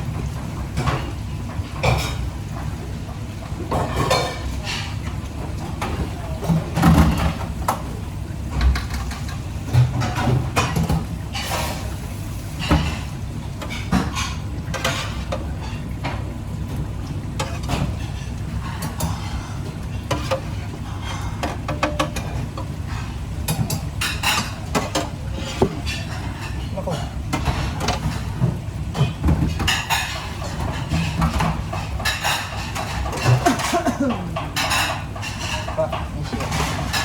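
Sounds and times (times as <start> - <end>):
utensils and dishes clinking: 0.4 - 2.8, 3.7 - 7.8, 8.5 - 37.0.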